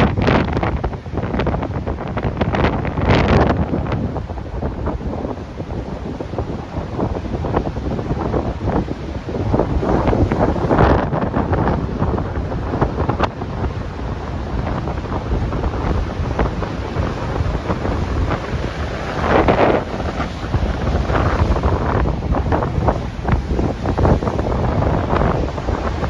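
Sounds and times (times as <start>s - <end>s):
wind buffeting microphone: 0.0s - 26.0s
ocean surf rushing: 3.8s - 26.0s.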